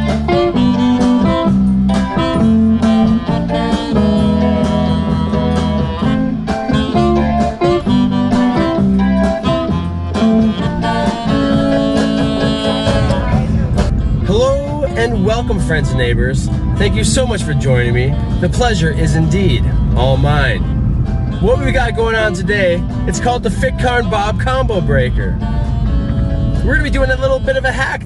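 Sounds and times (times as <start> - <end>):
guitar-led instrumental music: 0.0 - 28.0.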